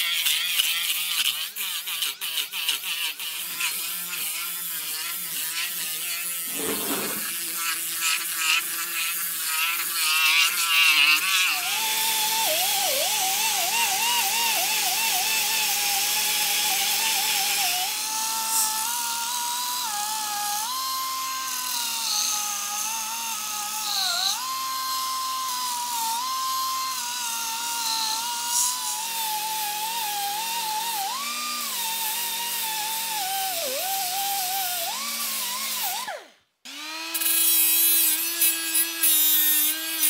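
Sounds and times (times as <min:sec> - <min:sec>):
grinder whining on metal: 0:00.0 - 0:40.0.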